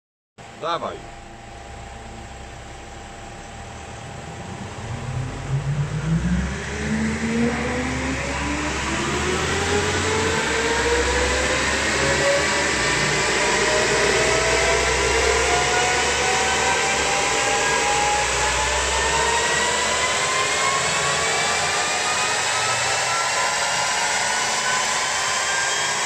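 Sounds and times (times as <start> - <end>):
diesel engine under full load: 0.4 - 26.0
whine of spinning wheels and rollers: 0.8 - 26.0.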